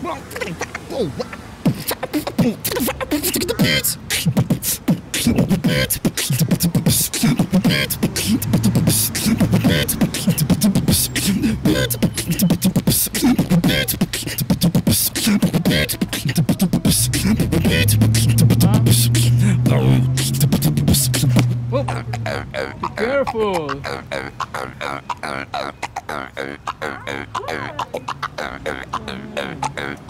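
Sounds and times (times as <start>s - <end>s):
beatbox vocal percussion: 0.0s - 30.0s
wavering vocal sounds: 0.0s - 30.0s.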